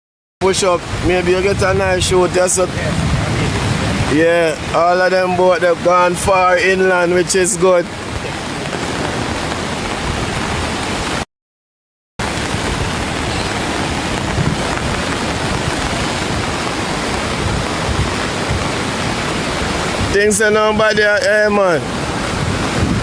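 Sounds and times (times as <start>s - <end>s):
storm wind: 0.4s - 11.2s, 12.2s - 23.0s
rushing water: 0.4s - 11.3s, 12.2s - 23.0s.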